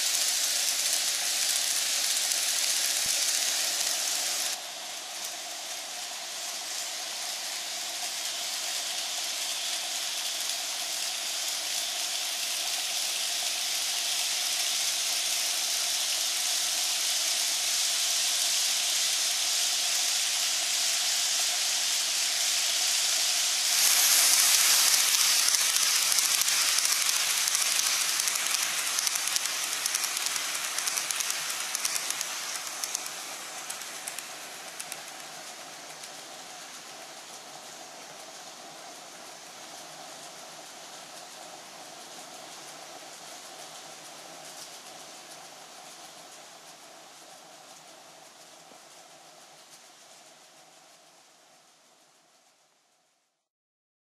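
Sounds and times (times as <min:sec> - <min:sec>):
faint motor whine: 0:00.0 - 0:53.4
model train rolling on track: 0:00.0 - 0:53.4.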